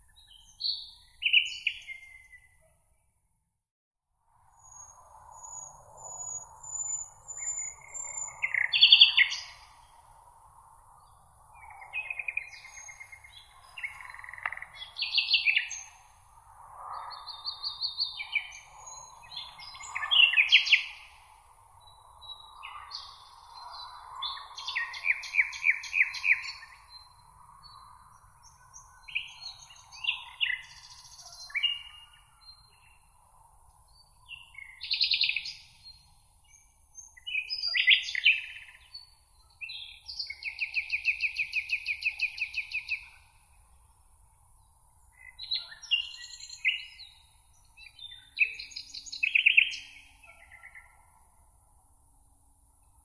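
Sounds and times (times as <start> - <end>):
songbirds chirping and trilling: 0.0 - 2.7, 4.6 - 53.0.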